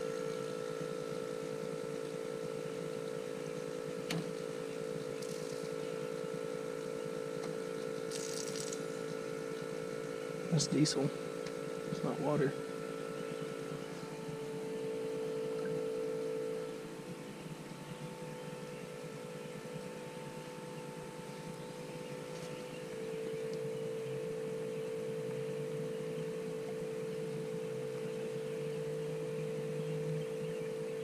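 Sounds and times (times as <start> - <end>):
steady mechanical whine: 0.0 - 31.0.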